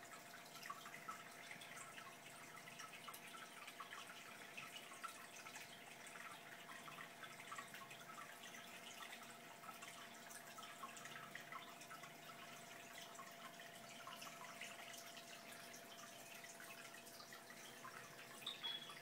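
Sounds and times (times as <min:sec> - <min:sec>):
aquarium water trickling: 0:00.0 - 0:19.0
faint steady hum: 0:00.0 - 0:19.0.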